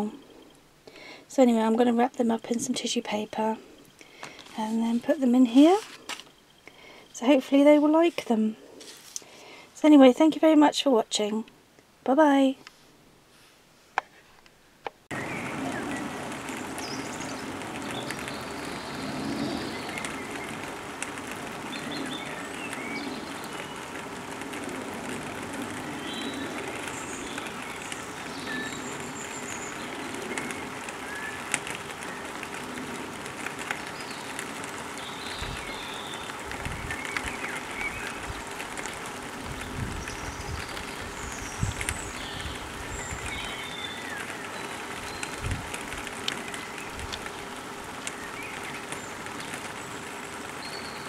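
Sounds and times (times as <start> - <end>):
garden background noise: 0.0 - 51.0.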